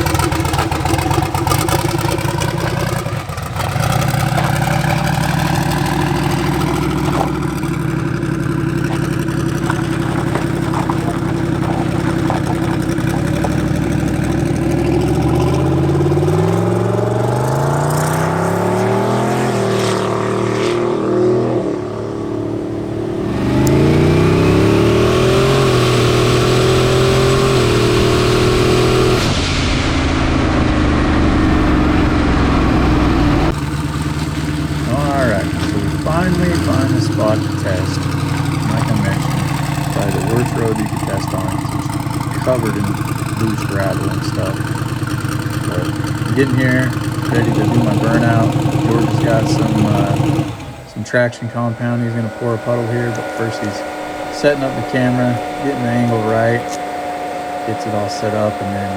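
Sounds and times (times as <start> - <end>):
truck engine accelerating: 0.0 - 58.9.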